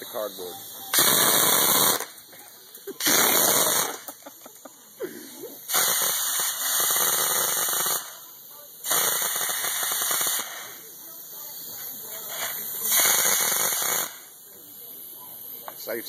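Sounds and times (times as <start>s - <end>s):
air gun hissing bursts: 0.0s - 4.4s, 5.4s - 16.0s.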